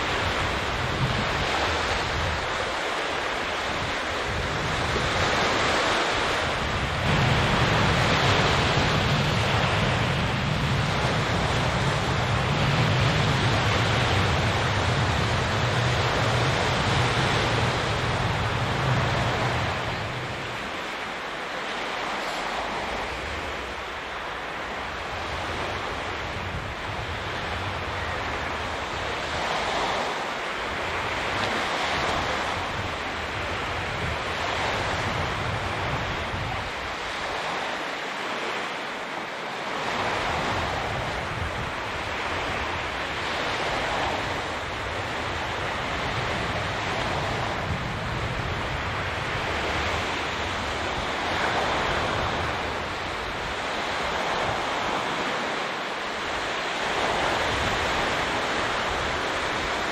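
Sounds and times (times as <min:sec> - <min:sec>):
wind buffeting microphone: 0:00.0 - 0:39.0, 0:39.6 - 0:59.9
sea waves washing on shore: 0:00.0 - 0:59.9.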